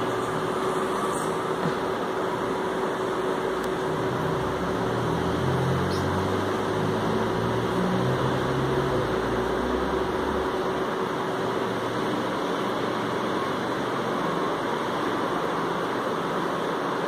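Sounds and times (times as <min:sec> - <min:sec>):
electric fan motor whirring: 0:00.0 - 0:17.0.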